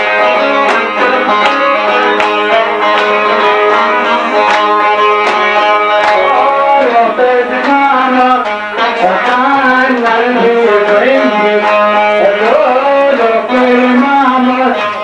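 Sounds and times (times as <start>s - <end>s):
regular drum beats: 0.0s - 14.4s
live party music: 0.0s - 15.0s.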